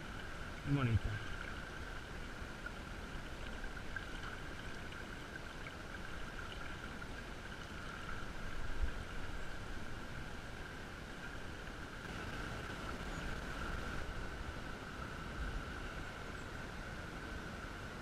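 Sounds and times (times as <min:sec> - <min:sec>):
river current over shallow bed: 0:00.0 - 0:18.0.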